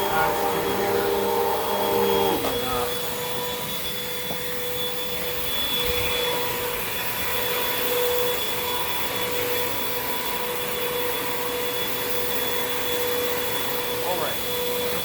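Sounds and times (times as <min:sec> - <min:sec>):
upright vacuum cleaner running: 0:00.0 - 0:15.0.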